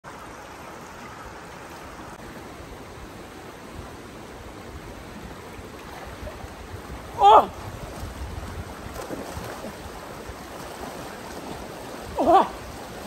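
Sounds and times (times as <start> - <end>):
river rushing over stones: 0.1 - 13.0.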